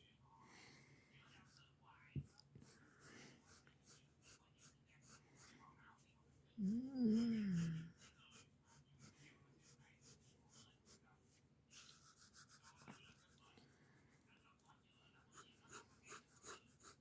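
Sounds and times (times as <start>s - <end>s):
pencil sketching on paper: 1.4s - 6.0s, 7.6s - 17.0s.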